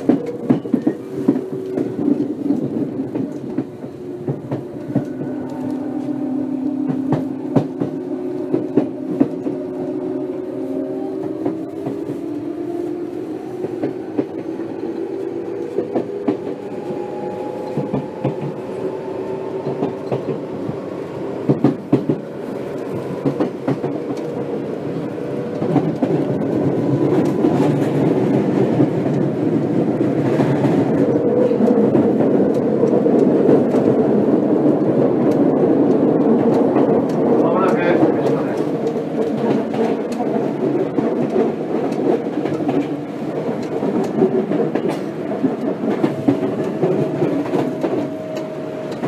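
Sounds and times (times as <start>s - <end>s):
wheels clacking over rail joints: 0.0s - 9.8s, 19.5s - 49.0s.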